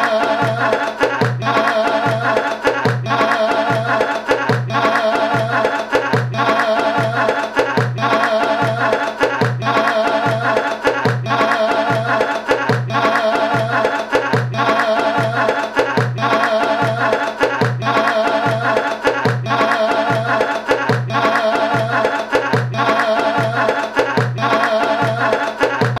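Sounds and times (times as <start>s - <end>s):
folk tune with drum beat: 0.0s - 26.0s.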